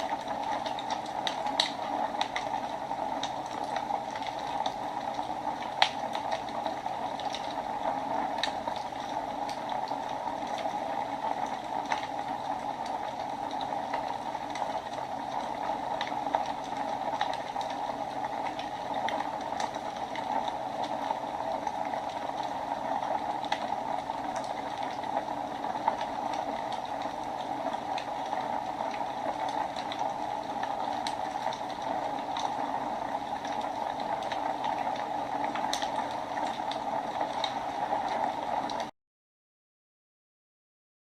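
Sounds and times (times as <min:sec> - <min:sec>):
wood fire hissing and crackling: 0:00.0 - 0:38.9.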